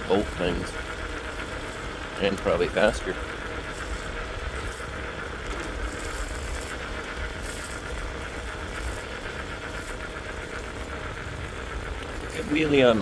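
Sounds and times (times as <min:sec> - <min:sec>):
e-bike rattle and hum: 0:00.0 - 0:13.0.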